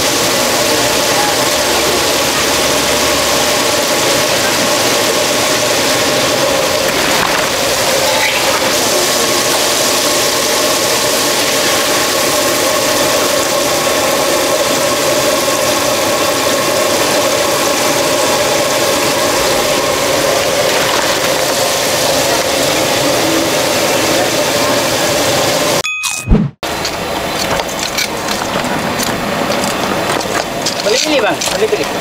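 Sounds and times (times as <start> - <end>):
chicken deep-frying in oil: 0.0 - 25.8, 26.7 - 32.0.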